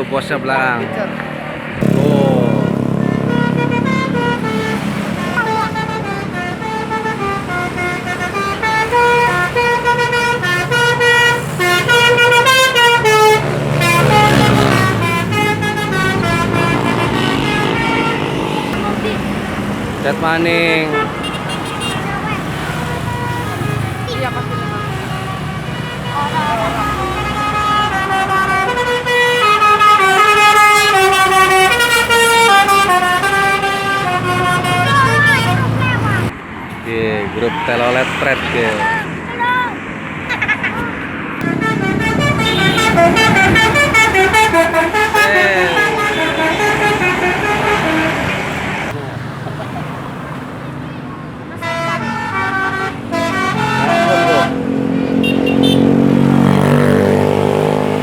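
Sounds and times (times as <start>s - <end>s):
bus engine running: 0.0s - 58.0s
musical air horn melody: 1.8s - 19.3s, 20.9s - 36.3s, 41.4s - 48.8s, 51.6s - 57.7s.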